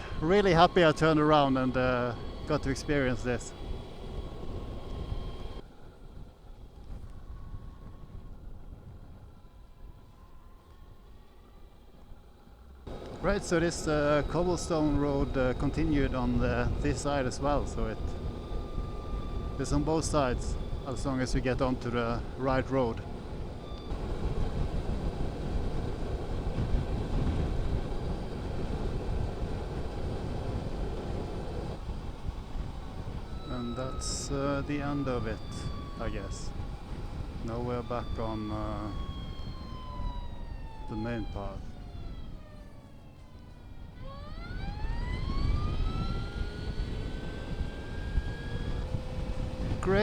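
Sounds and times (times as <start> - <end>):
rushing ride noise: 0.0 - 5.6, 12.9 - 43.1, 44.2 - 50.0
electric motorcycle motor whine: 0.0 - 50.0
tyres rumbling on cobblestones: 0.0 - 50.0.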